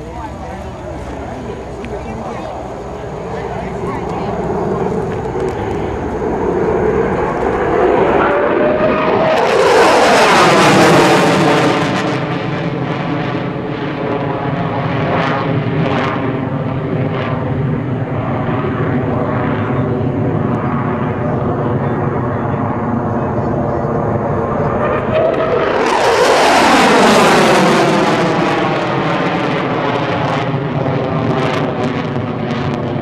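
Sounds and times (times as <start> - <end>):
afterburner roar with crackles: 0.0 - 33.0
jet fighter flying past: 0.0 - 33.0.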